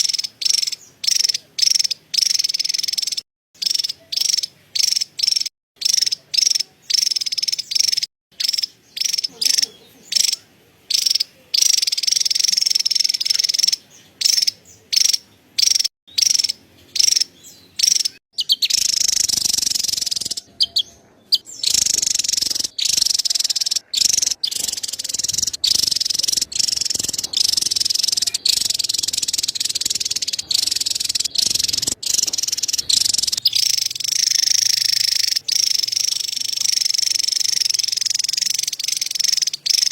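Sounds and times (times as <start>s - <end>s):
bird chattering call: 0.0s - 39.9s.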